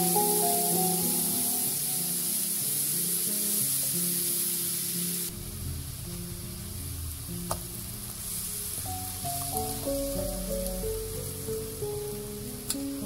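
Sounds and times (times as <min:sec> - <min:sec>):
liquid simmering hiss: 0:00.0 - 0:13.0
paste sizzling in a wok: 0:00.0 - 0:13.0
soft background music: 0:00.0 - 0:13.0.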